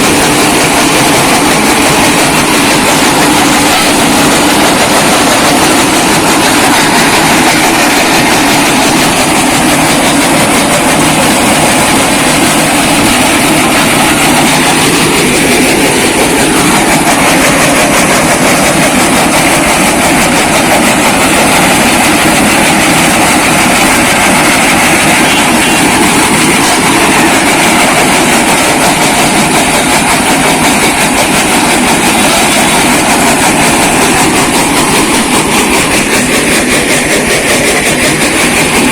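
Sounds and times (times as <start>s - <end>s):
machine crushing bricks: 0.0s - 38.9s.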